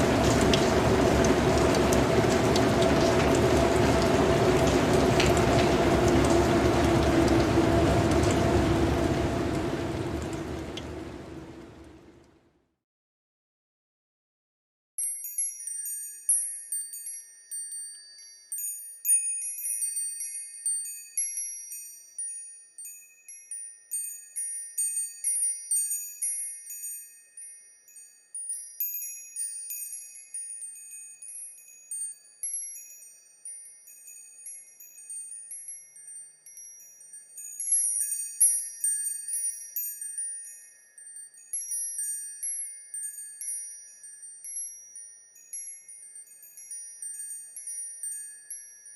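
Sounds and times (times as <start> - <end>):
wind chimes tinkling: 0.0 - 10.7, 15.0 - 48.9.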